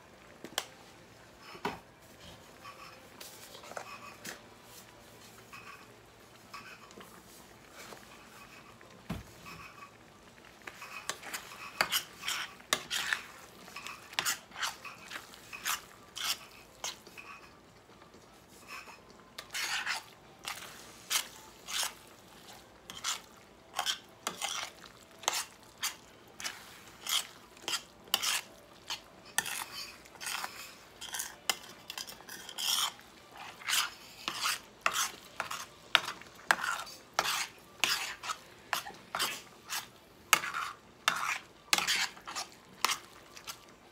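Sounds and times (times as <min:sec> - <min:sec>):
spoon scraping a metal pan: 0:02.6 - 0:04.4, 0:05.4 - 0:07.1, 0:10.6 - 0:17.6, 0:18.6 - 0:43.6.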